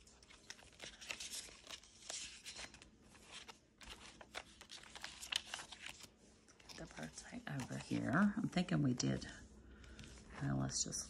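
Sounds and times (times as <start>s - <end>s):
paper and plastic rustling: 0.0s - 11.0s.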